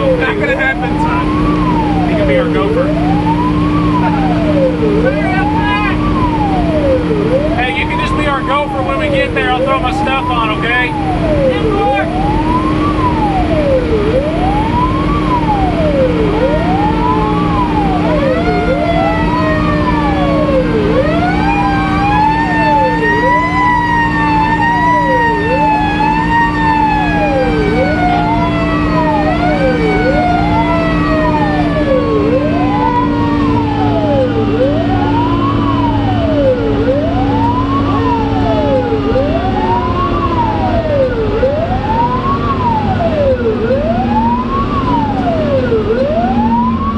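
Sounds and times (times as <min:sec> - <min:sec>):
engine droning: 0:00.0 - 0:46.9
fire engine siren wailing: 0:00.0 - 0:46.9
higher siren tone: 0:00.0 - 0:46.9.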